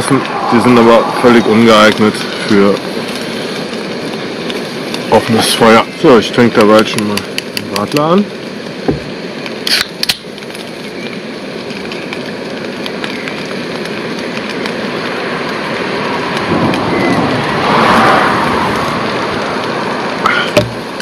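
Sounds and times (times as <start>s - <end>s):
potatoes frying in hot oil: 0.0s - 21.0s.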